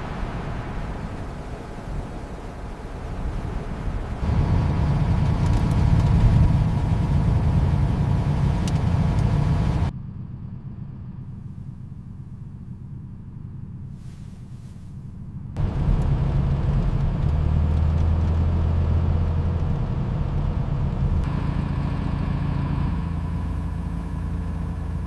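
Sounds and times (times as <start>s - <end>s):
truck engine rumbling: 0.0s - 9.9s, 10.8s - 25.0s
low hum: 0.0s - 25.0s.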